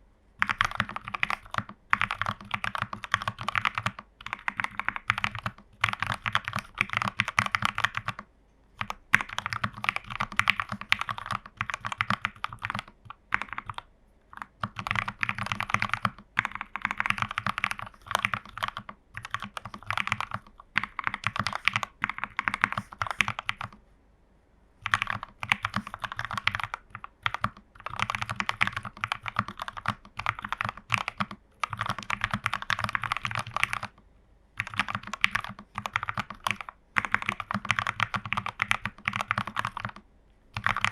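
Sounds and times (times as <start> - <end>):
typing on mechanical keyboard: 0.4 - 23.8, 24.8 - 34.0, 34.6 - 40.9.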